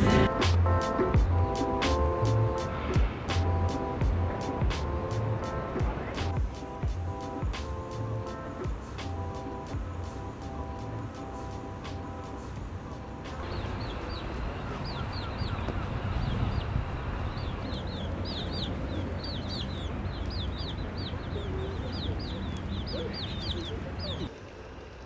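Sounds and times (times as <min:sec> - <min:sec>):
birds chirping: 0:00.0 - 0:25.0
low background rumble: 0:00.0 - 0:25.0.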